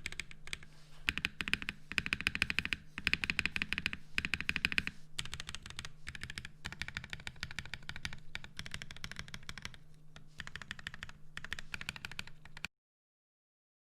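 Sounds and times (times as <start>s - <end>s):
fast mechanical keyboard typing: 0.0s - 12.7s.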